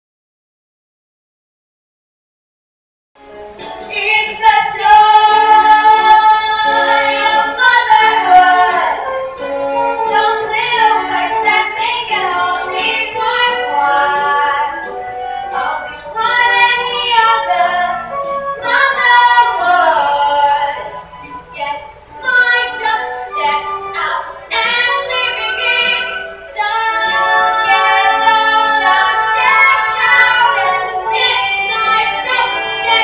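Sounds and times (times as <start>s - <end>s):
woman singing with music: 3.4s - 33.0s.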